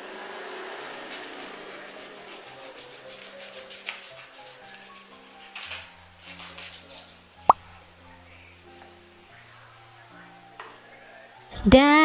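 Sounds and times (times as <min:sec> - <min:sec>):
soft background music: 0:01.9 - 0:12.0.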